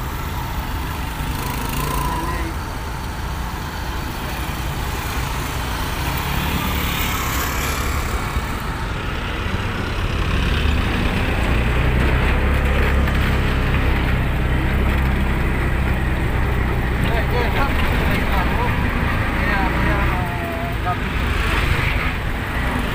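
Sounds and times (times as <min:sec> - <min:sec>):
auto-rickshaw engines driving past: 0:00.0 - 0:22.9.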